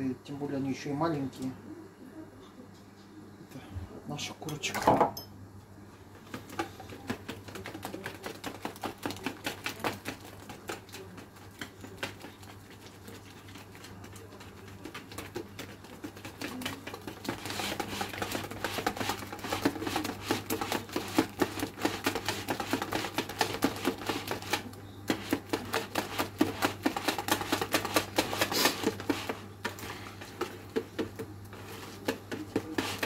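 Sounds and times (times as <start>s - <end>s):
hand mixing sticky dough: 5.9s - 33.0s
whisk clicking in plastic bowl: 6.2s - 33.0s.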